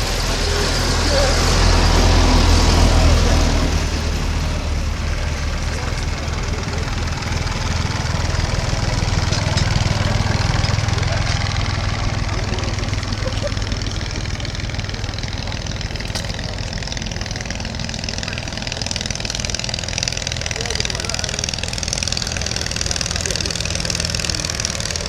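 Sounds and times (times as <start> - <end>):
light aeroplane engine in flight: 0.0 - 25.0.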